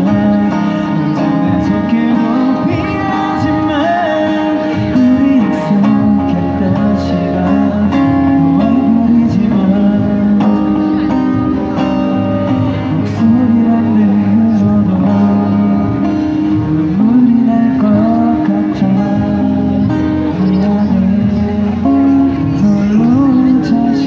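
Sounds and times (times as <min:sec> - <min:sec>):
person singing: 0:00.0 - 0:24.0
strummed acoustic guitar: 0:00.0 - 0:24.0.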